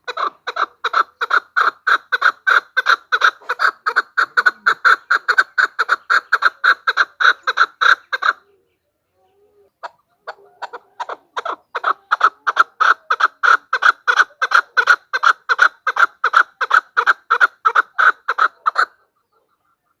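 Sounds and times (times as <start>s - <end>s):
partridge calling: 0.0s - 20.0s.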